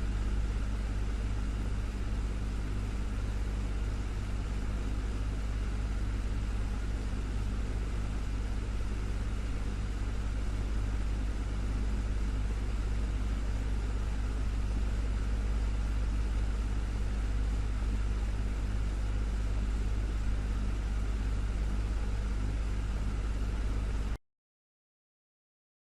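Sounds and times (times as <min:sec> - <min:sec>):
desktop fan running: 0:00.0 - 0:24.2.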